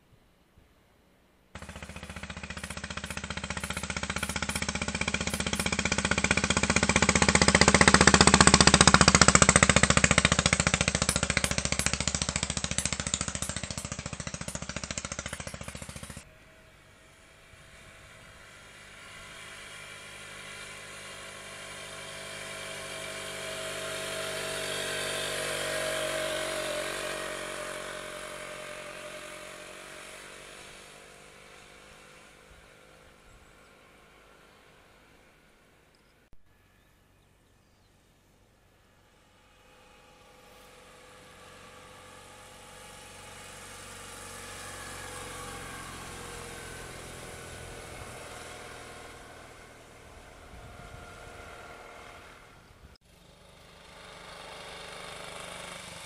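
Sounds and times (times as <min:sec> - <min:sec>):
motorcycles riding past: 0:01.6 - 0:35.9, 0:38.9 - 0:56.0.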